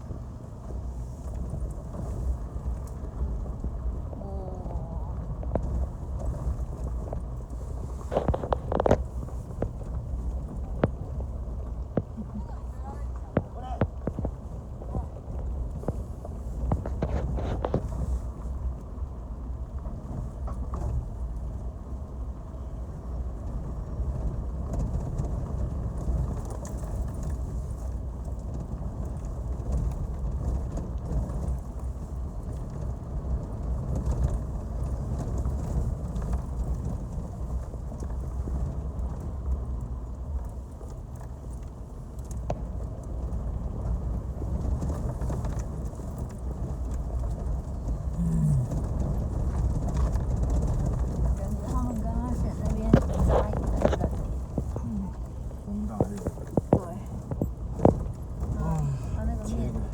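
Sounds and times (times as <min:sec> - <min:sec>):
vehicle engine low rumble: 0:00.0 - 0:59.9.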